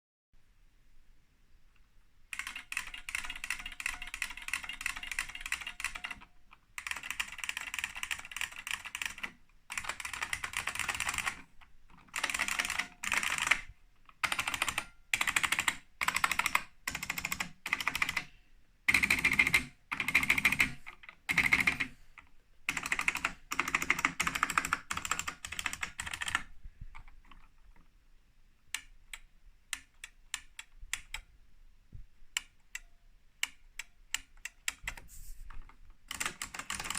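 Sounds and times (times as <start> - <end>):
keyboard typing with loud clicks: 2.3 - 18.3, 18.9 - 27.9, 28.7 - 31.3, 32.3 - 36.9.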